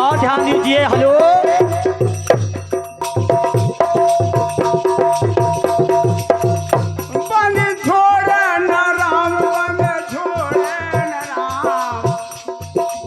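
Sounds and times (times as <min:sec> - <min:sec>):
clacking hand percussion: 0:00.0 - 0:13.0
drum beating steady rhythm: 0:00.0 - 0:13.0.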